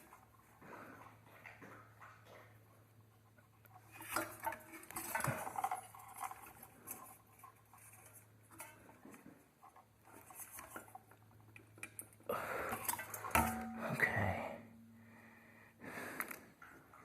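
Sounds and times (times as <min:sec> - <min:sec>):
rustling of tools and wire: 0:00.0 - 0:15.1.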